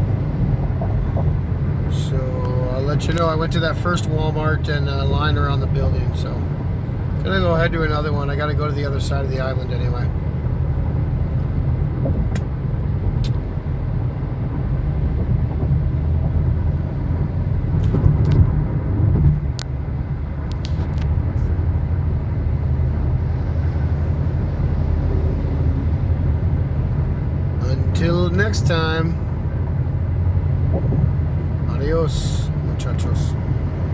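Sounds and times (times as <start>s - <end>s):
car engine and tyre noise: 0.0s - 33.9s.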